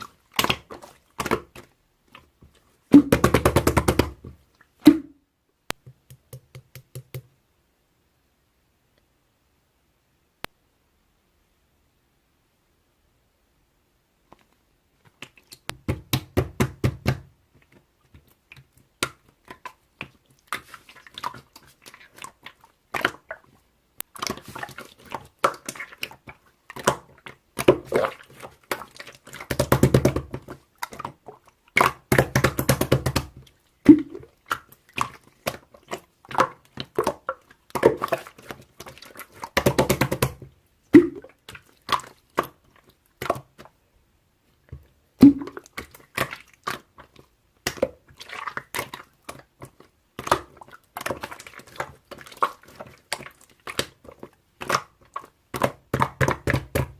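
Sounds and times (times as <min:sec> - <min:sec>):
slime squelching and popping: 0:00.0 - 0:07.3, 0:15.1 - 0:43.8, 0:44.6 - 0:56.9.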